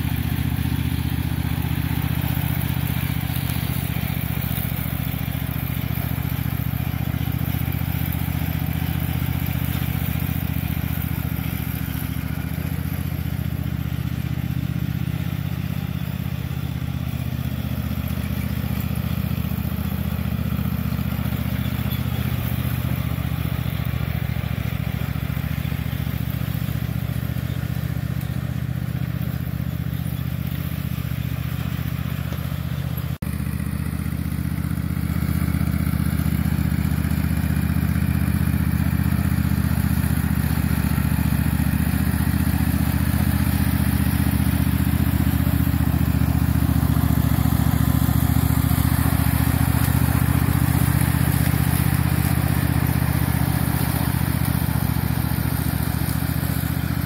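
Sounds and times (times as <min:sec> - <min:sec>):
riding lawn mower engine: 0:00.0 - 0:57.0.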